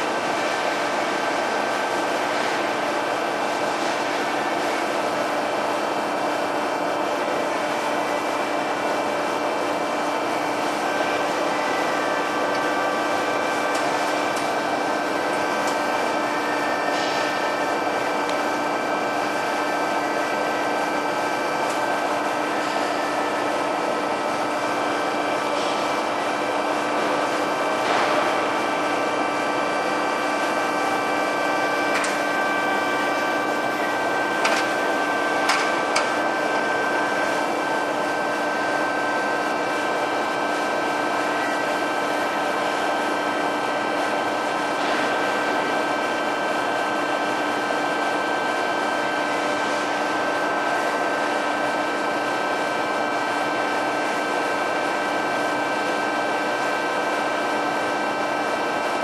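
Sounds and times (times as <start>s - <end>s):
band saw humming and whining: 0.0s - 53.8s.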